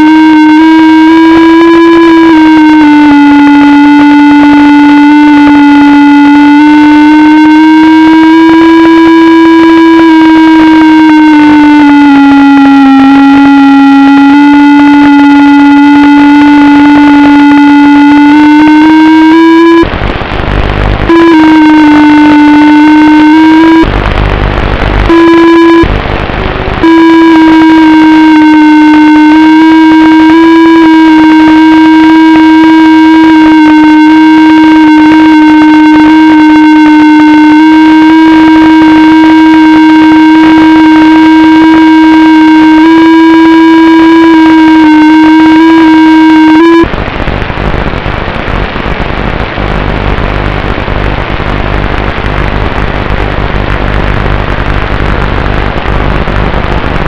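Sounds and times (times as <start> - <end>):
drone motors whining: 0.0 - 47.0.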